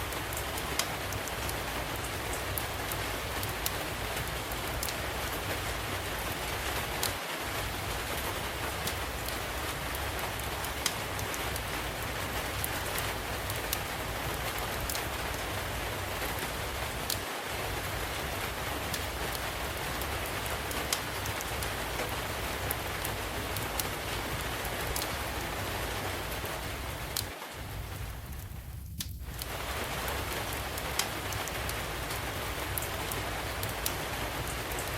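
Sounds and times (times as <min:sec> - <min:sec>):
rain hissing: 0:00.0 - 0:34.9
wood fire crackling: 0:00.0 - 0:34.9.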